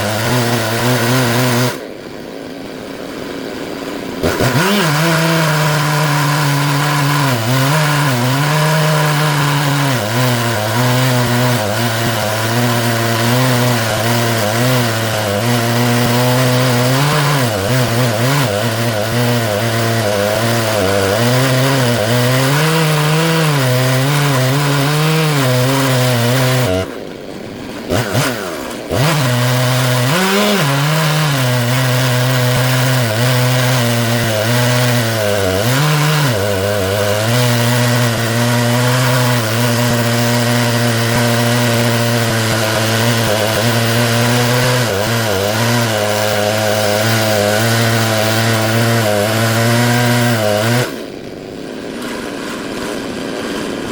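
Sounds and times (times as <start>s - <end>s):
chainsaw cutting through log: 0.0s - 53.9s.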